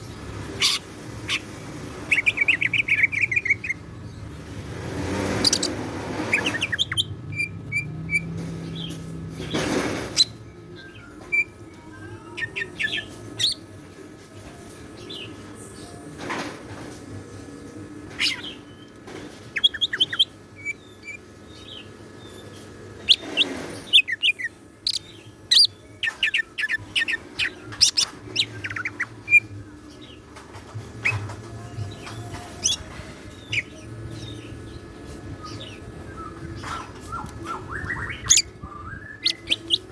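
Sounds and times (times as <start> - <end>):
bird singing chirps and trills: 0.0 - 13.7, 18.1 - 39.9.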